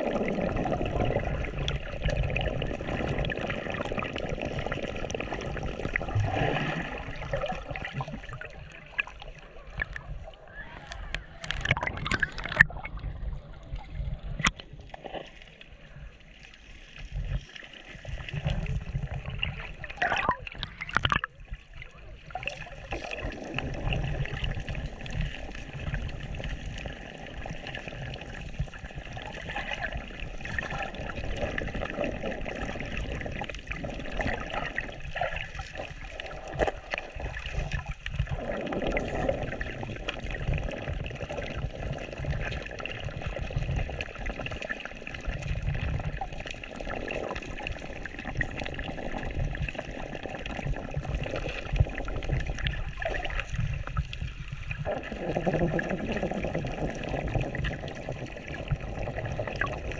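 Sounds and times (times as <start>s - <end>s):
sea water sloshing and gurgling: 0.0s - 59.9s.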